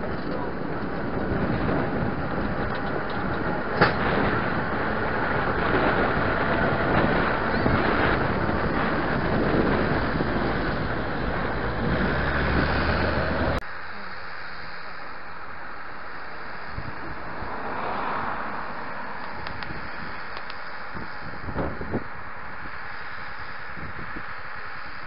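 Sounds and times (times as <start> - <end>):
diesel locomotives moving slowly: 0.0 - 25.0.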